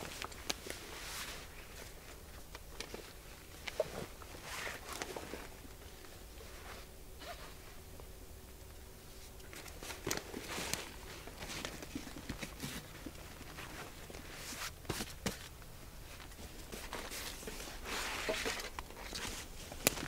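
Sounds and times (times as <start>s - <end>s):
rucksack straps rustling: 0.0s - 7.7s, 9.3s - 20.0s.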